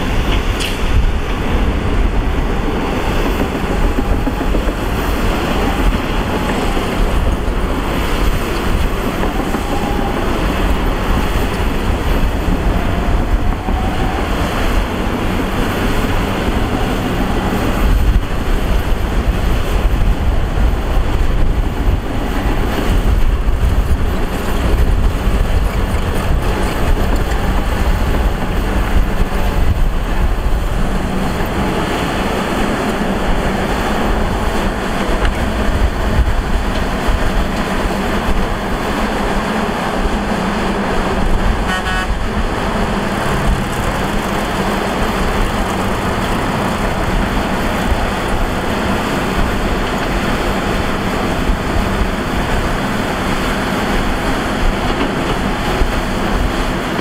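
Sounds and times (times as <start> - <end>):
excavator diesel engine rumbling: 0.0 - 57.0.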